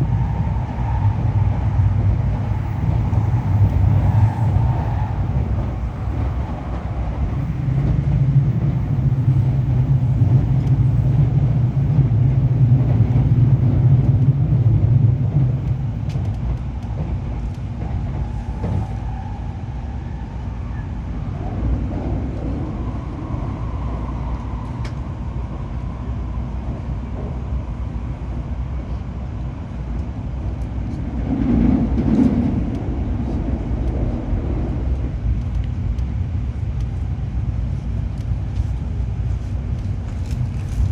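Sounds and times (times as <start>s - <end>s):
train interior rumble: 0.0s - 40.9s.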